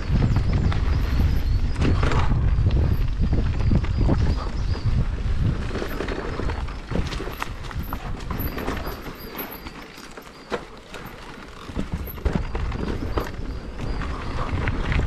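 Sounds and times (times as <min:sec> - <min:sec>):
bike rattling over bumps: 0:00.0 - 0:15.0
tyre and wind rumble: 0:00.0 - 0:15.0.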